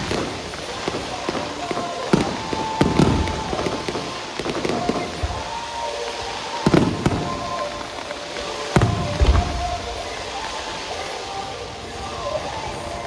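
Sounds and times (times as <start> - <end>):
fireworks booming: 0.0 - 11.0
fireworks crackling: 0.0 - 13.0.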